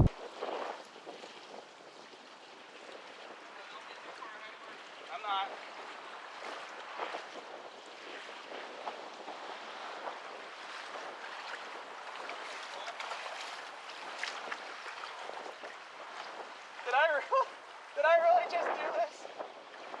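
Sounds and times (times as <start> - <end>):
water lapping against kayak hull: 0.0 - 18.0, 19.2 - 20.0
wind: 0.0 - 20.0.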